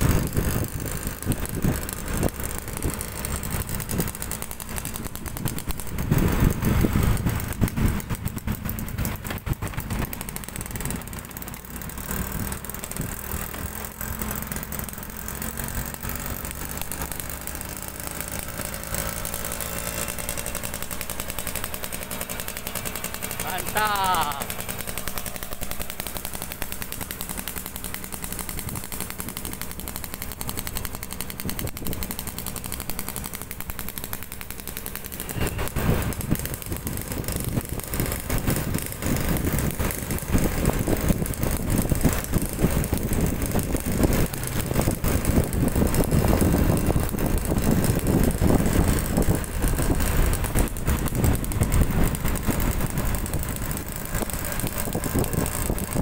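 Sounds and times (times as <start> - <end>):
exhaust crackle: 0.0 - 56.0
two-stroke motorcycle engine: 0.0 - 56.0.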